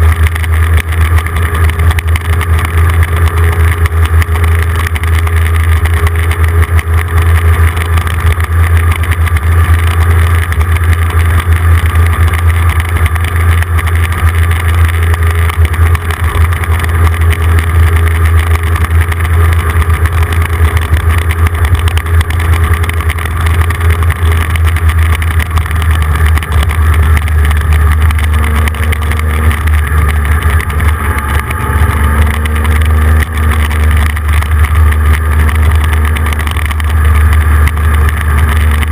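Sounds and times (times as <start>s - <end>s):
motorcycle engine drone: 0.0s - 38.9s
wind rumble on microphone: 0.0s - 38.9s.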